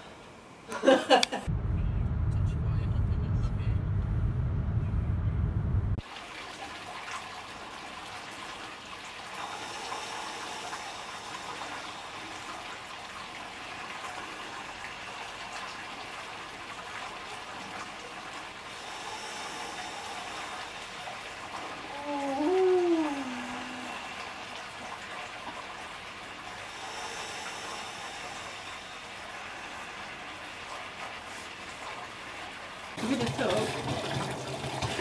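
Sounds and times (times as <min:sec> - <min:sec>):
water running from a tap: 0:06.0 - 0:35.0.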